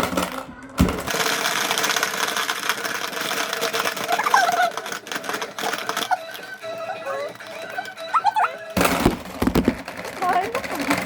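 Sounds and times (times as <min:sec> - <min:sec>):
plastic game pieces clacking: 0:00.0 - 0:11.0.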